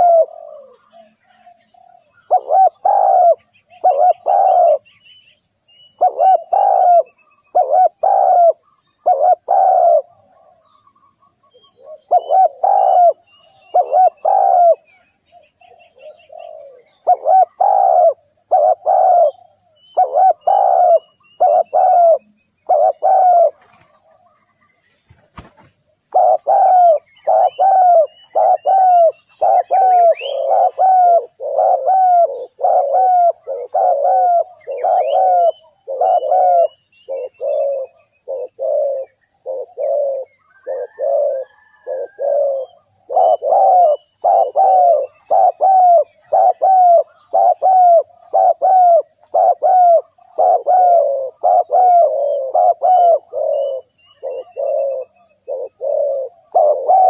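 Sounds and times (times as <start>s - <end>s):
dove cooing: 0.0s - 4.9s, 5.9s - 10.7s, 11.4s - 57.0s.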